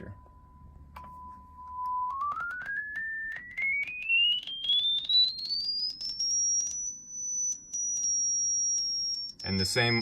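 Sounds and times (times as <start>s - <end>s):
test tone rising in pitch: 0.5s - 9.4s.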